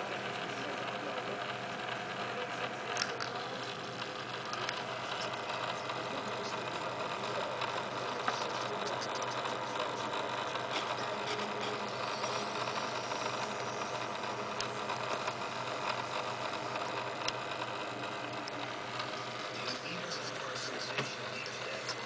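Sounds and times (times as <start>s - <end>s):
small motor humming and rattling: 0.0s - 22.0s.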